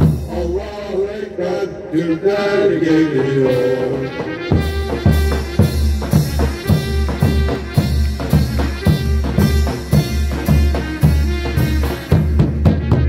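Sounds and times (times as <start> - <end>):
heavy drum beats: 0.0 - 0.8, 3.1 - 13.0
marching band melody: 0.0 - 13.0.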